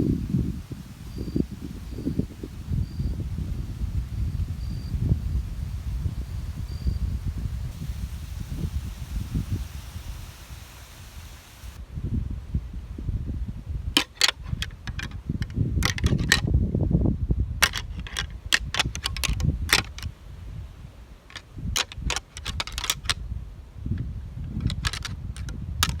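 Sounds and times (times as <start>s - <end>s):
low rustle and rumble: 0.0s - 26.0s.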